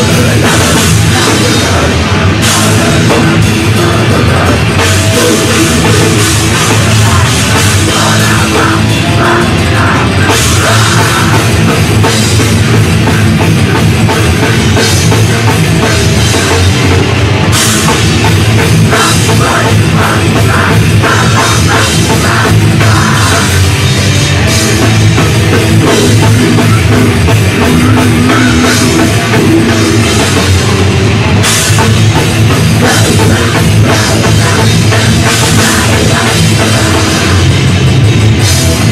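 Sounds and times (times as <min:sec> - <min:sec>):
bass guitar: 0:00.0 - 0:38.9
distorted electric guitars: 0:00.0 - 0:38.9
drum kit with cymbals: 0:00.0 - 0:38.9.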